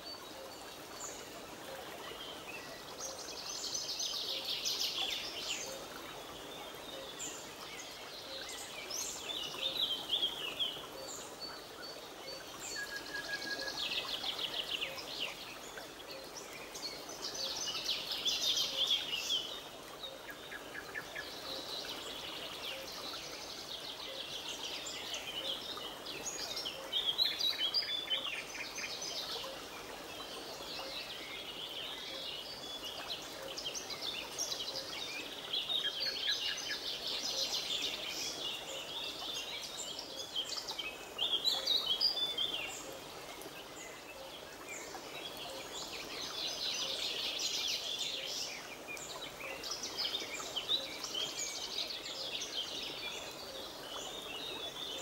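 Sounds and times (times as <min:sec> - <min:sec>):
small birds chirping and singing: 0:00.0 - 0:55.0.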